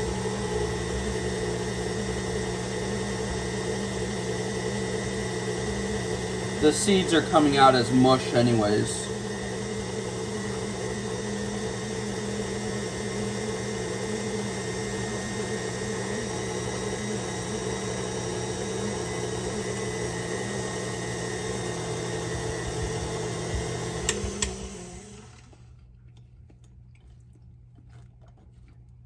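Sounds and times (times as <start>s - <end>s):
stand mixer motor humming: 0.0s - 25.7s.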